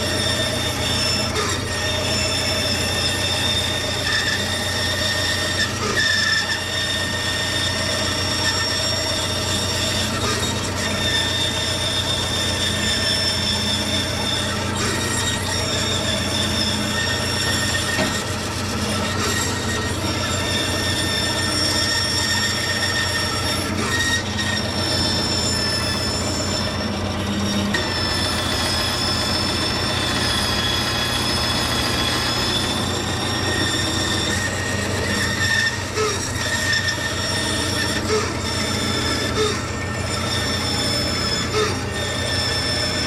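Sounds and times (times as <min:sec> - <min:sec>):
power tool whining: 0:00.0 - 0:43.0.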